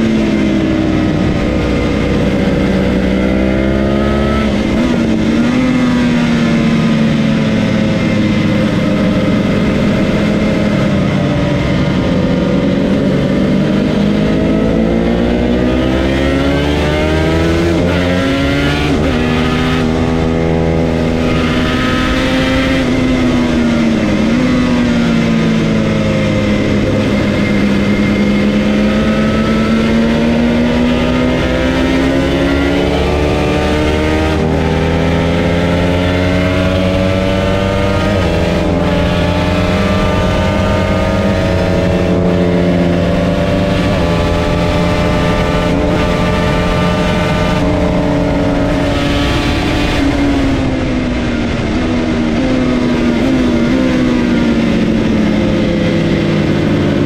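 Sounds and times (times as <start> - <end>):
two-stroke engine at high revs: 0.0 - 57.0.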